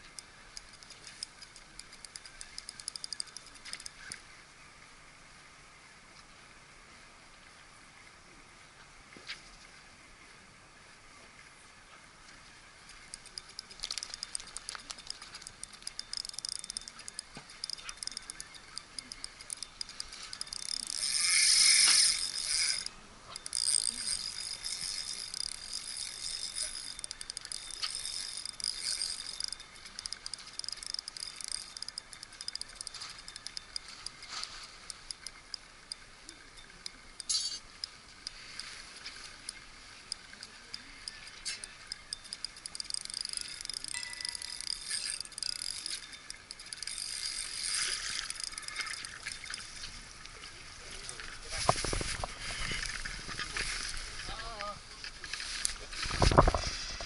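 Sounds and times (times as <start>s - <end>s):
fishing reel cranking: 0.0s - 4.2s, 12.9s - 57.0s.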